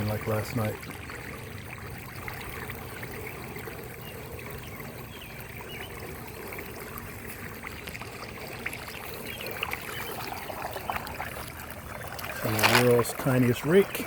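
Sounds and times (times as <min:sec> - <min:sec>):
water draining into storm drain: 0:00.0 - 0:14.0.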